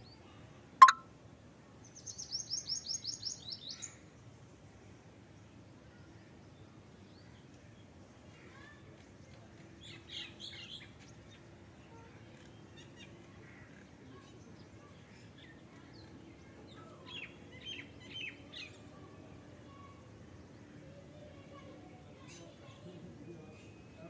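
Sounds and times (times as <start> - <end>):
small birds chirping: 1.8 - 4.4, 7.0 - 24.0.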